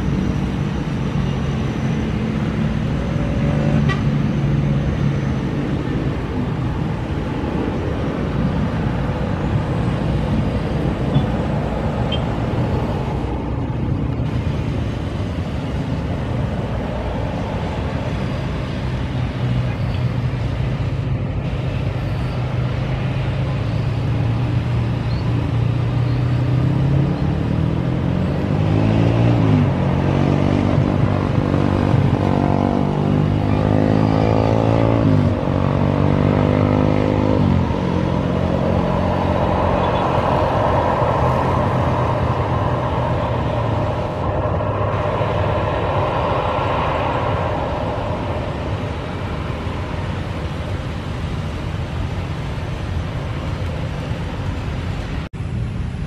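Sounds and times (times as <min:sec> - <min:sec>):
rushing background noise: 0:00.0 - 0:56.0.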